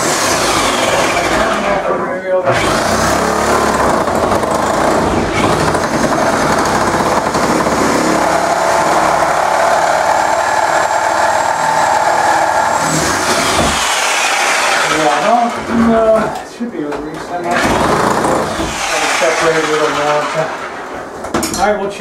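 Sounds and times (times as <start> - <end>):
reciprocating saw cutting wood: 0.0 - 16.3, 17.5 - 21.0.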